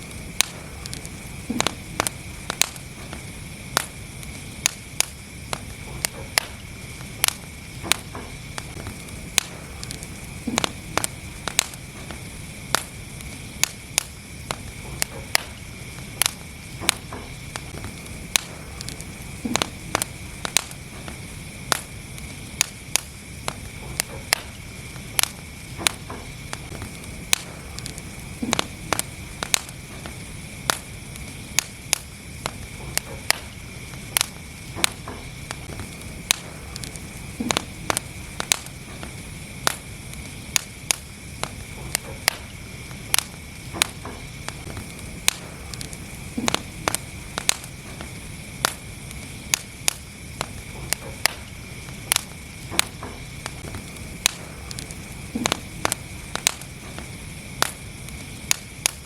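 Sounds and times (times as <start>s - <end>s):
fire rumble and hiss: 0.0s - 59.0s
wood fire crackling and popping: 0.0s - 59.0s.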